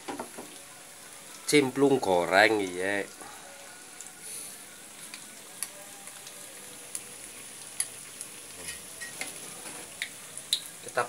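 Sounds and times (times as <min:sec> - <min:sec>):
oil sizzling with spitting pops: 0:00.0 - 0:11.0.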